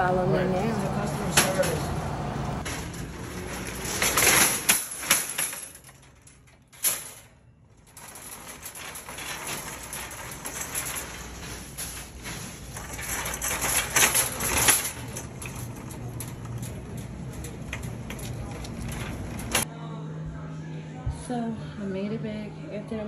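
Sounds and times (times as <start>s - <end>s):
shopping cart rattling on floor: 0.0s - 1.9s, 2.6s - 19.7s
shopping cart clattering: 0.0s - 19.7s.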